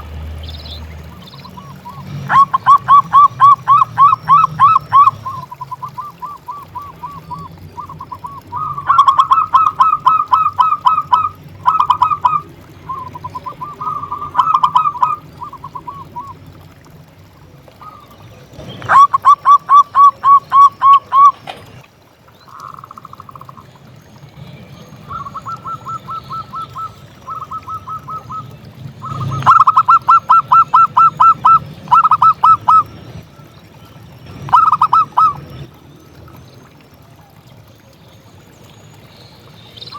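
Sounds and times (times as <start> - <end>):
doves cooing: 0.7 - 35.8.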